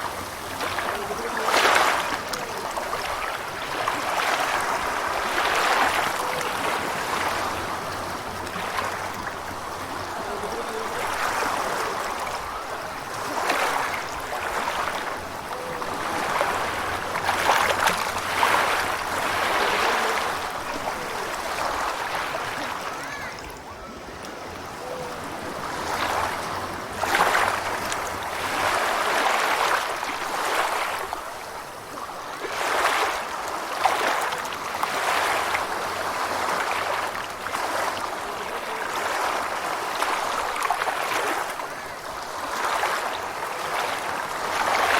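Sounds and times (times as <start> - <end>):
ocean waves washing in: 0.0 - 44.9.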